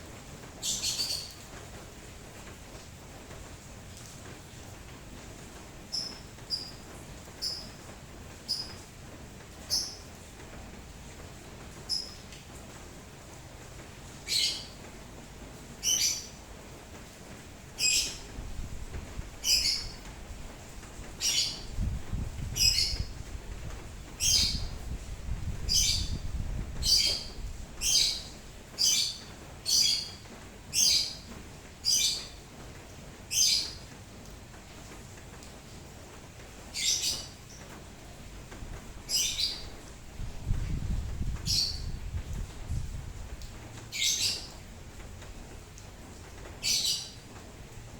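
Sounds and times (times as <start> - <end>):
rain hiss: 0.0 - 47.9.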